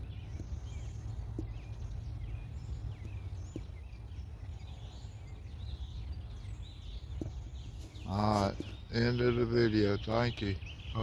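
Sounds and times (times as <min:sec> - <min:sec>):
steady low rumble: 0:00.0 - 0:09.8
small birds chirping: 0:00.0 - 0:11.0.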